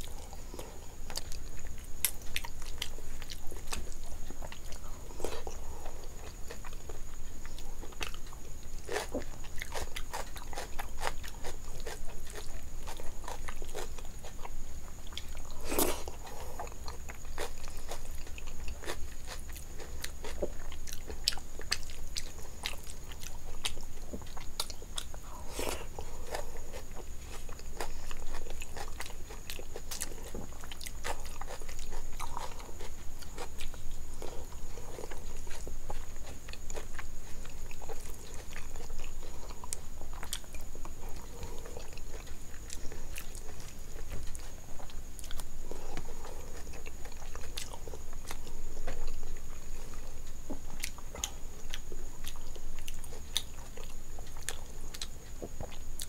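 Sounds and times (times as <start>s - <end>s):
chewing with wet mouth clicks: 0.0s - 25.2s, 25.8s - 56.0s.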